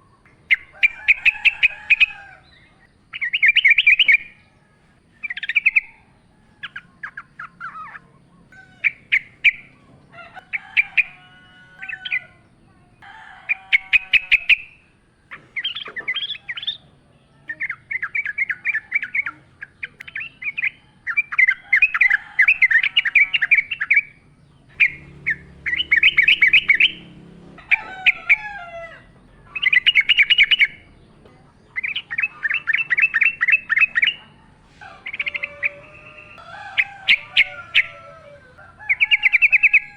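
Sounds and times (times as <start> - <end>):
bird singing bubbly chattering phrases: 0.0 - 4.5, 5.1 - 11.2, 13.7 - 28.4, 29.2 - 34.4, 35.0 - 38.0.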